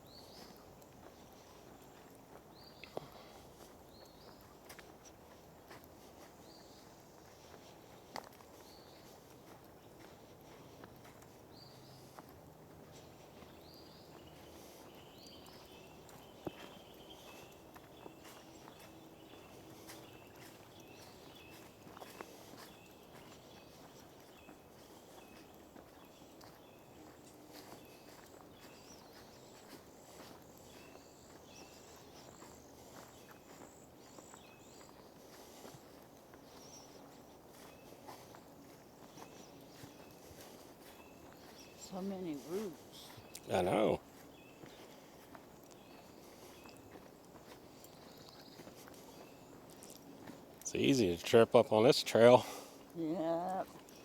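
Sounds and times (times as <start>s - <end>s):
footsteps on sand: 0.0s - 54.0s.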